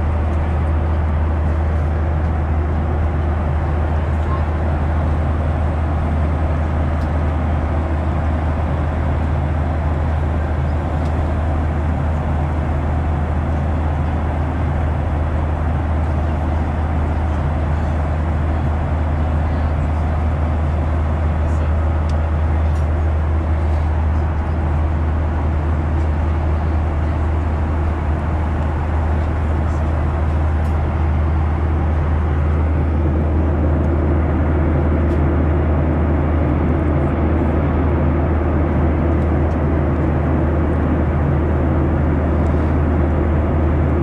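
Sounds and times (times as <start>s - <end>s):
airliner cabin drone: 0.0s - 44.0s.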